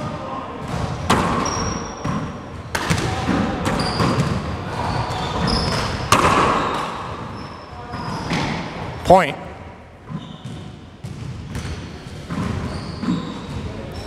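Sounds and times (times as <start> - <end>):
sneakers squeaking on hardwood: 0.8 - 8.7, 10.0 - 14.0.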